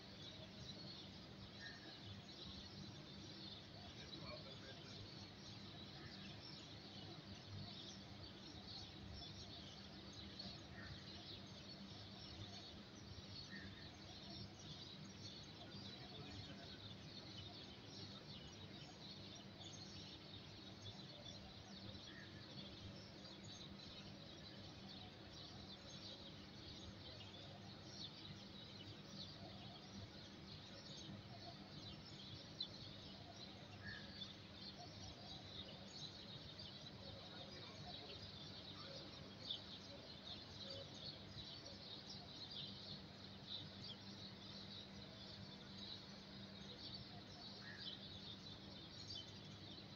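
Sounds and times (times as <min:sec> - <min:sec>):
low background noise: 0:00.0 - 0:49.9
small birds chirping: 0:00.0 - 0:49.9.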